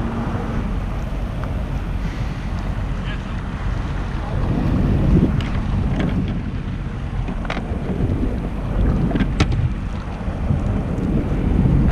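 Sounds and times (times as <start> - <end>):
jet ski engine rumble: 0.0 - 11.9
wind buffeting microphone: 0.0 - 11.9.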